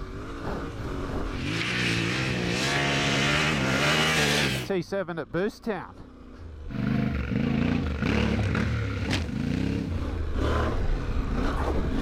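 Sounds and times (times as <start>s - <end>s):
motorcycle engine revving: 0.0s - 4.7s, 6.5s - 12.0s.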